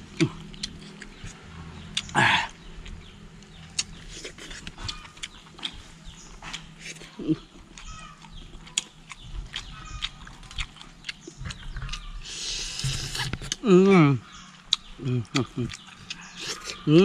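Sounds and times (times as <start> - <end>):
chewing and lip-smacking: 0.1 - 13.6, 14.2 - 17.0.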